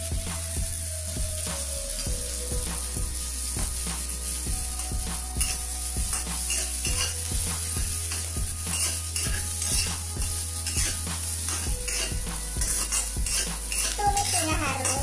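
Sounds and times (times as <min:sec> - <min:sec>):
spatula scraping and tapping wok: 0:00.0 - 0:15.0
stir-fry sizzling in a wok: 0:00.0 - 0:15.0.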